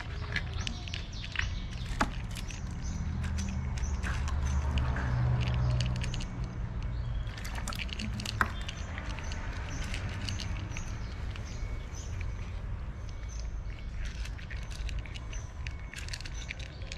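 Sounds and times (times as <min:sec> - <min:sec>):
cats crunching food: 0:00.0 - 0:16.9.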